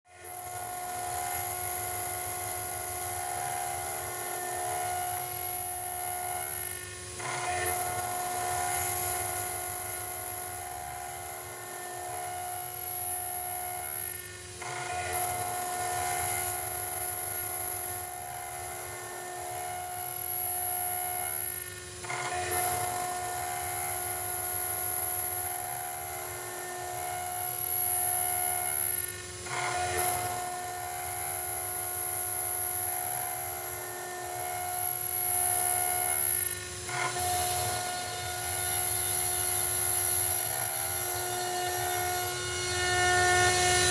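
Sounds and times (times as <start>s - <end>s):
high-pitched cutting whine: 0.1s - 43.9s.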